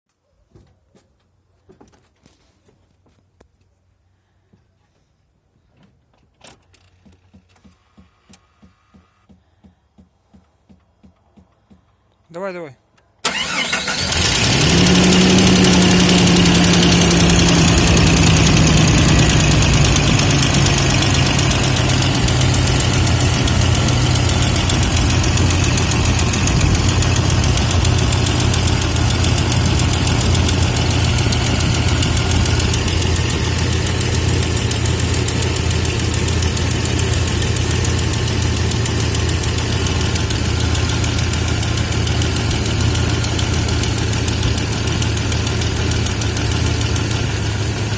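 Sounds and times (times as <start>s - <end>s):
car engine idling with knock: 7.0s - 11.9s, 14.1s - 47.9s.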